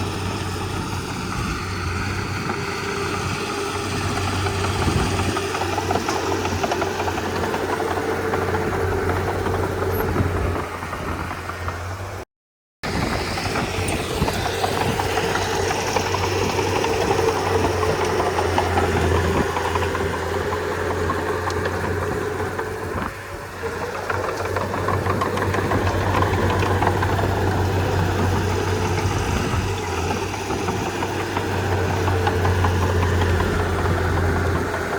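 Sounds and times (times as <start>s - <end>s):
bulldozer diesel engine rattling: 0.0s - 12.2s, 12.8s - 34.9s.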